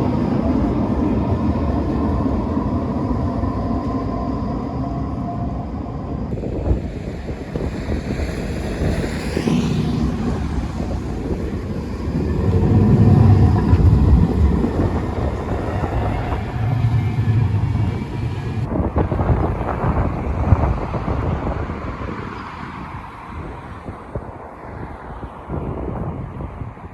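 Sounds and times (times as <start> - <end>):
tram wheels rumbling on track: 0.0 - 26.9.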